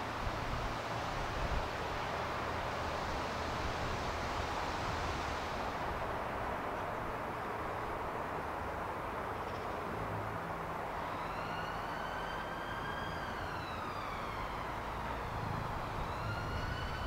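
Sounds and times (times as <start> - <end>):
diesel engine running low: 0.0 - 17.0.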